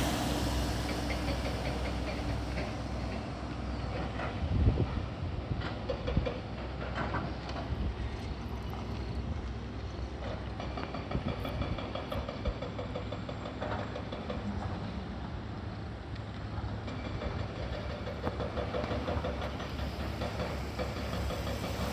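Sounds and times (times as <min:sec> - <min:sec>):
engine running with rhythmic clatter: 0:00.0 - 0:21.9.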